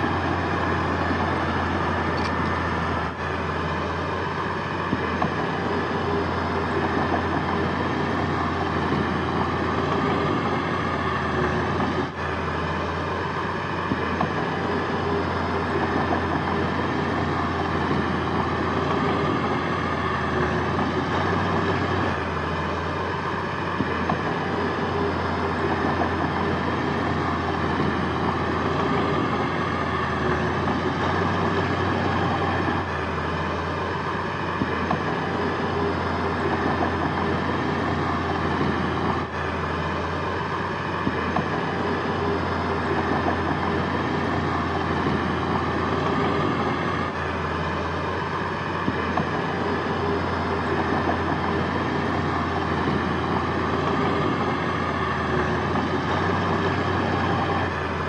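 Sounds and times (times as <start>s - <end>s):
heavy machinery engine drone: 0.0s - 58.0s.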